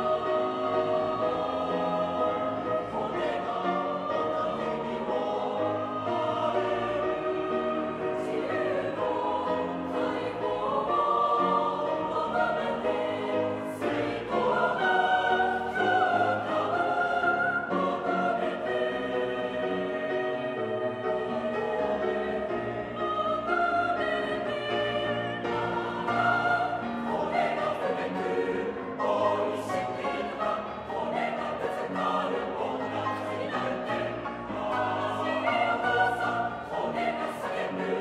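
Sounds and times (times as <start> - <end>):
mixed choir singing: 0.0 - 38.0
piano accompaniment: 0.0 - 38.0.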